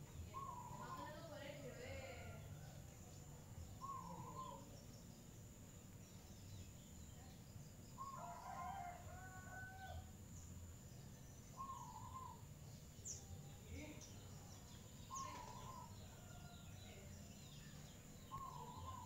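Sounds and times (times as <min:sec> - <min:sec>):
distant bird calls: 0:00.0 - 0:10.0, 0:11.0 - 0:19.0
low background noise: 0:00.0 - 0:19.0.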